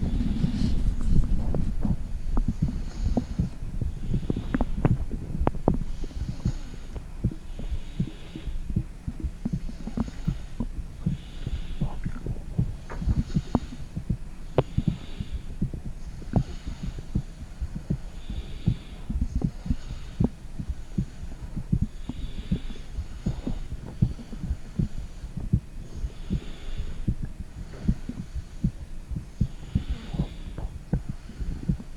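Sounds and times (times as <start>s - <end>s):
heartbeat thumps: 0.0s - 31.9s
stomach gurgles: 0.0s - 31.9s.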